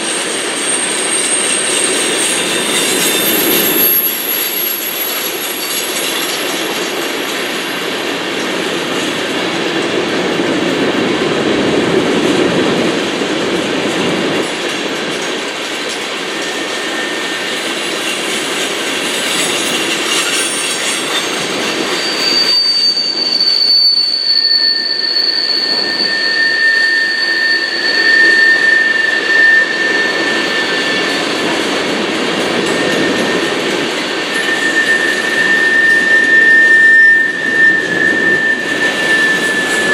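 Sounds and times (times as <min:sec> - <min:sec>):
high-pitched wheel squeals: 0:00.0 - 0:09.6, 0:13.6 - 0:39.9
freight train wheels on rail: 0:00.0 - 0:39.9.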